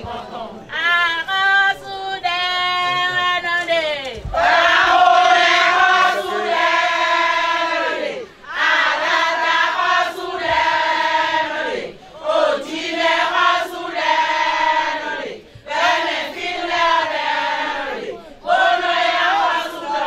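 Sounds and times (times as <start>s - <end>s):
women singing together: 0.0s - 20.0s.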